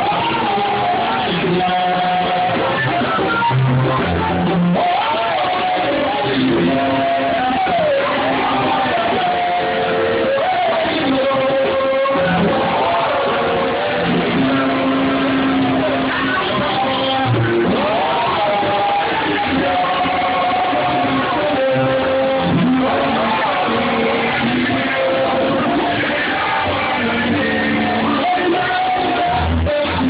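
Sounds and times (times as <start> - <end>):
guitar: 0.0 - 30.0
live band music: 0.0 - 30.0.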